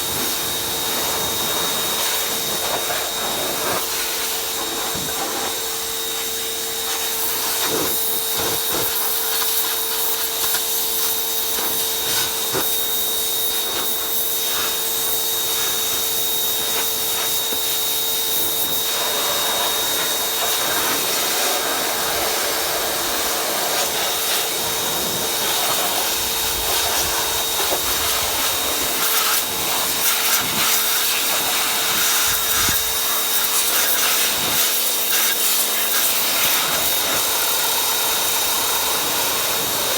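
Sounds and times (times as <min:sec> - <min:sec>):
machine motor humming and whining: 0:00.0 - 0:09.5, 0:10.2 - 0:39.9.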